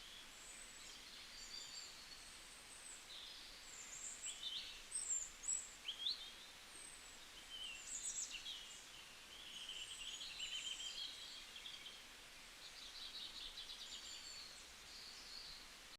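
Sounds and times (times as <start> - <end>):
songbirds chirping and singing: 0.0 - 15.8.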